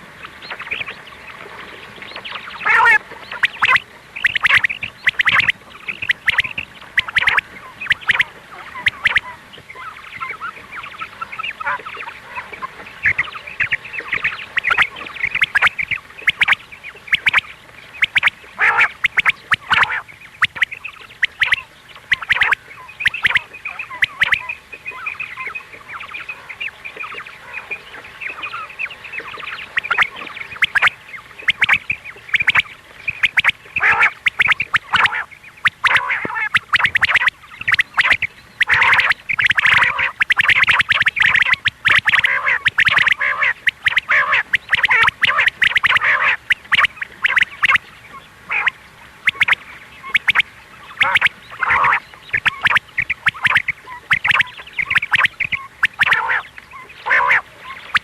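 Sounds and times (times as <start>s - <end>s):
quail calling: 0.0s - 1.4s, 2.0s - 58.0s.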